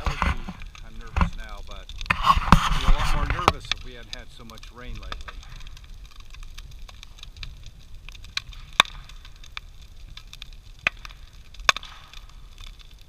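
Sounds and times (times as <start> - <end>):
bonfire crackling: 0.0 - 13.0
loud sharp pops: 0.0 - 13.0
low fire rumble: 0.0 - 13.0.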